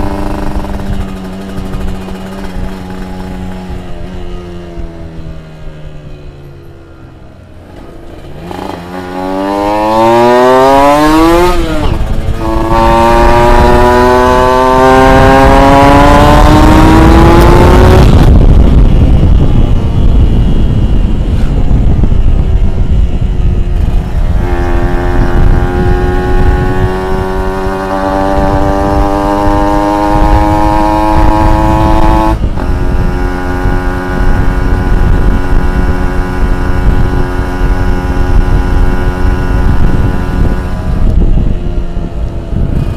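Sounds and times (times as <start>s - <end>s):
two-stroke motorcycle accelerating: 0.0s - 42.9s.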